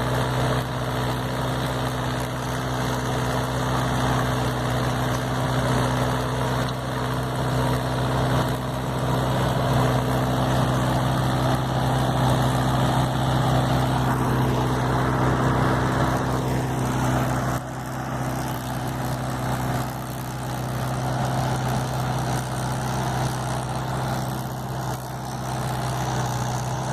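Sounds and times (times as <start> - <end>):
diesel tractor engine running: 0.0 - 26.9.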